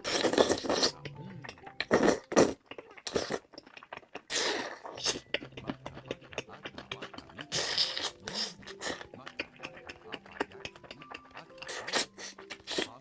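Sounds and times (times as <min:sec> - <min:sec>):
noisy chewing: 0:00.0 - 0:13.0
wet mouth clicks: 0:00.0 - 0:13.0.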